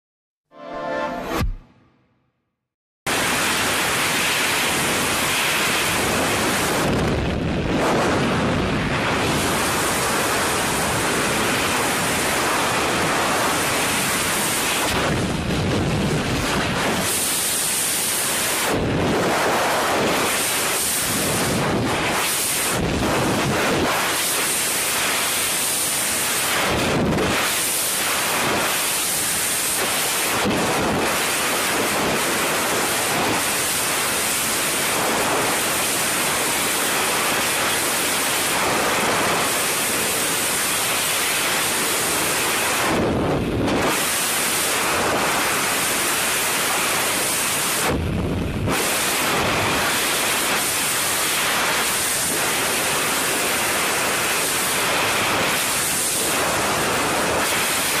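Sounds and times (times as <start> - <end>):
wind roaring over microphone: 3.1 - 58.0.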